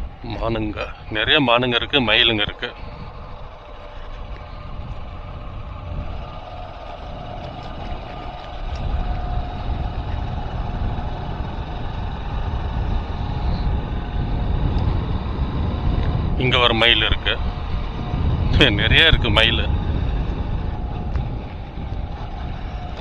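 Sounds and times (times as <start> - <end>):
road and wind noise: 0.0 - 23.0
vehicle engine rumble: 0.0 - 23.0.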